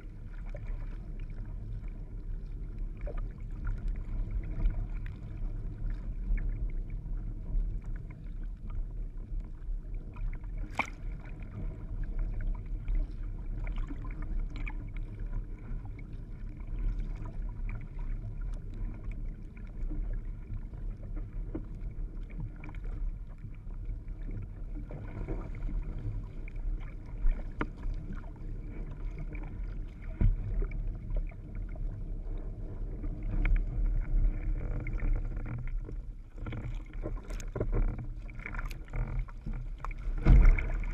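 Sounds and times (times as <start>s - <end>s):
water rushing against a board: 0.0s - 40.9s.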